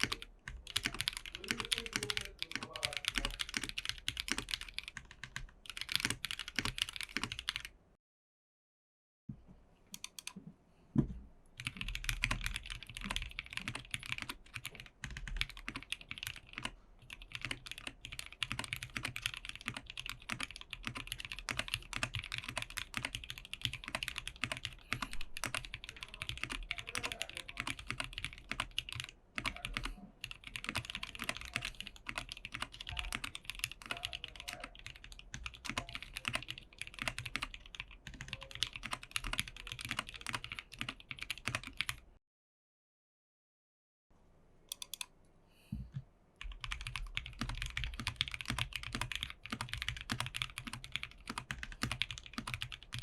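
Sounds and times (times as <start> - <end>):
mechanical keyboard typing: 0.0 - 7.7, 11.6 - 42.0, 44.7 - 45.1, 46.4 - 53.0.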